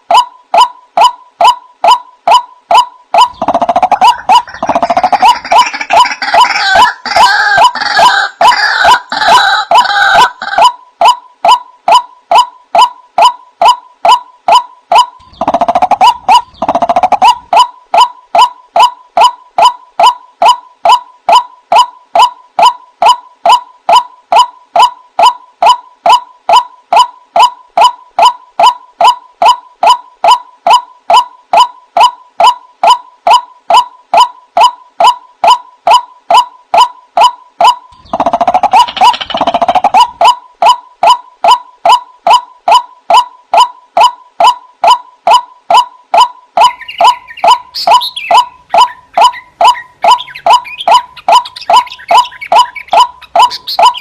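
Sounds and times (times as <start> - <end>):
waterhen call: 0.0 - 54.0.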